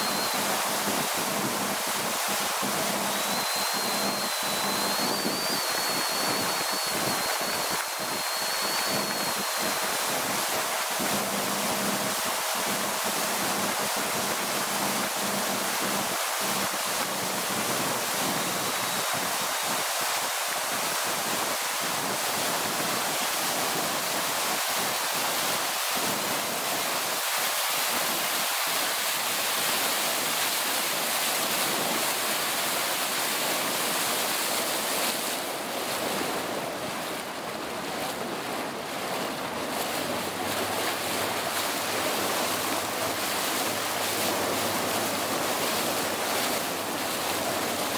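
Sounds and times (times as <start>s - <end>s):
motorboat running at speed: 0.0s - 47.9s
water rushing past boat hull: 0.0s - 47.9s
wind on microphone: 0.0s - 47.9s.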